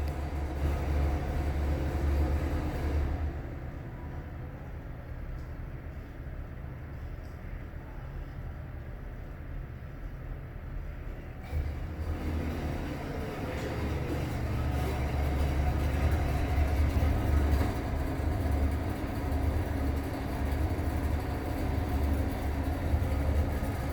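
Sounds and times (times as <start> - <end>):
ceiling exhaust fan humming and rattling: 0.0 - 23.9.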